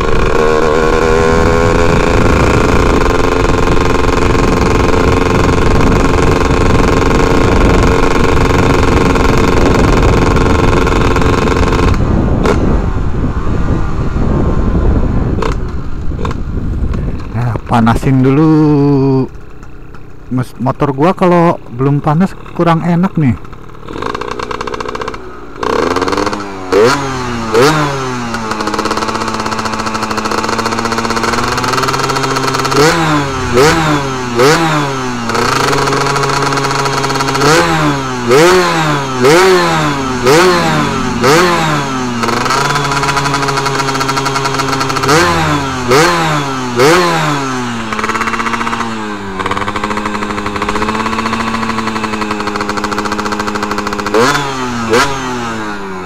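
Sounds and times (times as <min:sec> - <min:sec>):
two-stroke engine revving: 0:00.0 - 0:13.2, 0:15.0 - 0:56.0.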